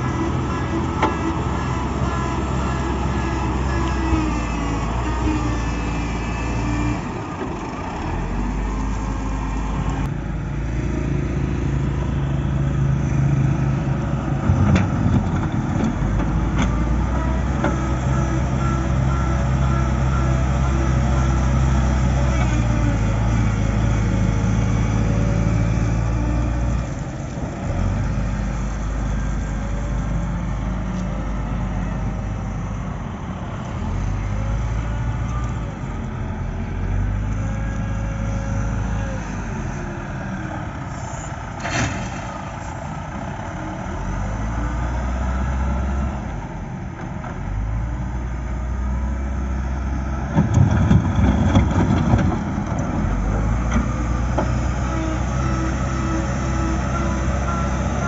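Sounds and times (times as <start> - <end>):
wheel loader diesel engine: 0.0 - 58.0.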